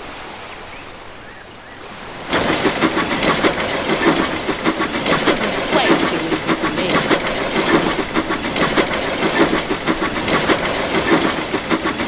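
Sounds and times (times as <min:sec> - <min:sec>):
steam train chuffing and hissing: 0:01.9 - 0:12.0
wheel clatter: 0:02.0 - 0:12.0.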